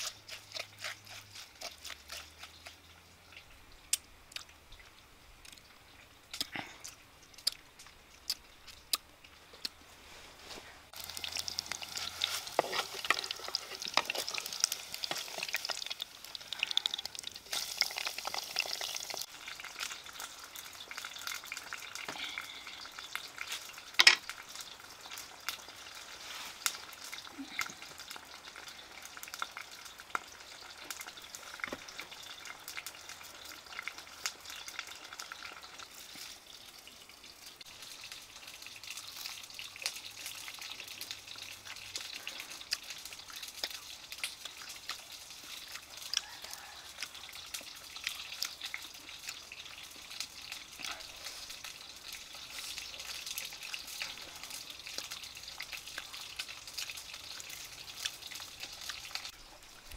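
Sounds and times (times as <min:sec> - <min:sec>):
food sizzling in a pan: 0:10.9 - 0:59.9.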